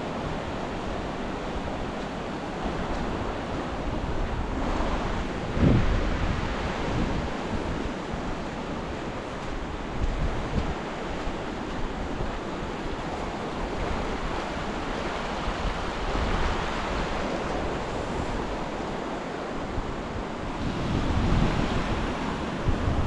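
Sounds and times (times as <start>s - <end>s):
river water rushing: 0.0s - 23.0s
wind buffeting microphone: 0.0s - 23.0s.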